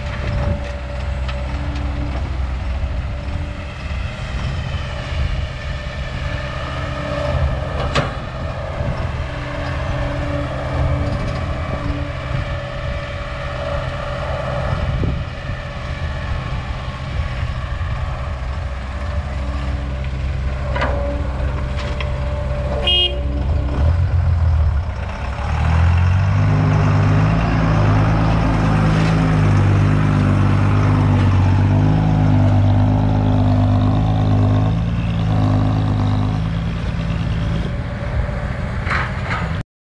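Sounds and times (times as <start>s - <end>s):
heavy diesel engines under load: 0.0s - 39.6s.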